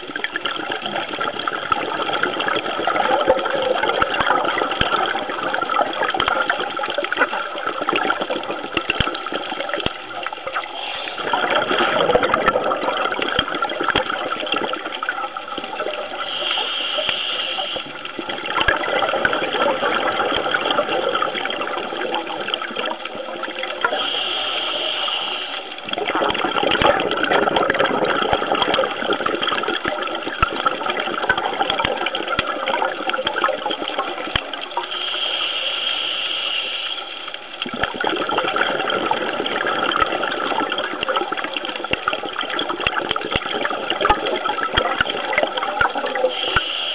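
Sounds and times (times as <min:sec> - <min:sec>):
bubbling water underwater: 0:00.0 - 0:46.9.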